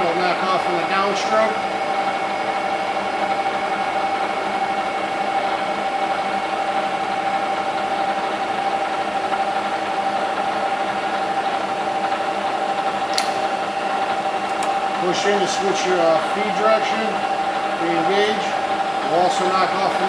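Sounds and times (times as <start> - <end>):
milling machine whine: 0.0 - 20.0.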